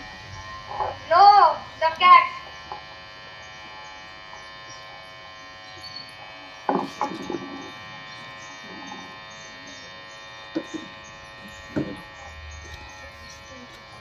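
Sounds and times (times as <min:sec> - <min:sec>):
steady electrical buzz: 0:00.0 - 0:14.0.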